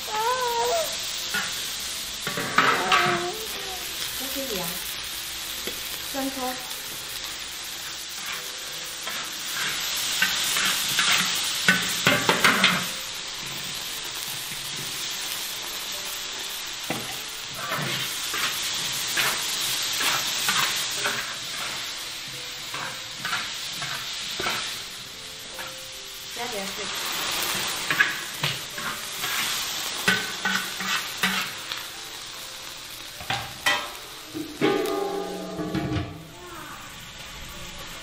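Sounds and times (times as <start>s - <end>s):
food sizzling in a wok: 0.0s - 38.0s
utensil scraping a wok: 0.1s - 15.7s, 16.7s - 31.9s, 33.2s - 36.3s.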